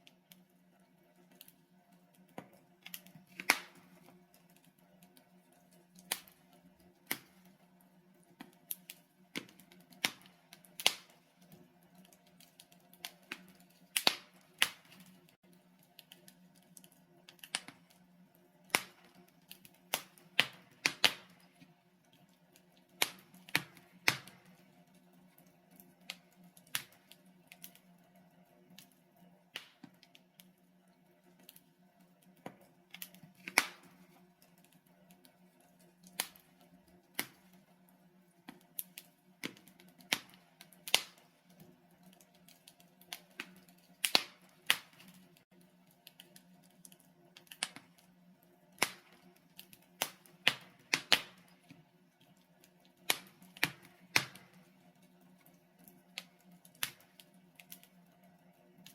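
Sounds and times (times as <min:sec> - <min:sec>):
logs crackling and popping: 0:00.0 - 0:58.9.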